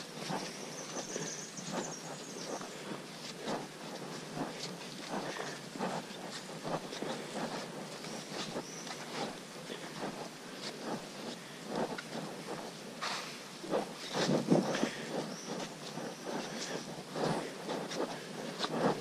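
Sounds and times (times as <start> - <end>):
footsteps on dirt trail: 0.0 - 19.0.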